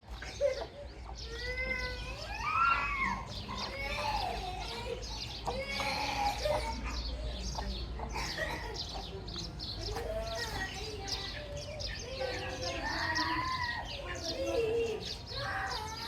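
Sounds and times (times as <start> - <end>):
young animals crying: 0.2 - 9.2, 9.8 - 16.0.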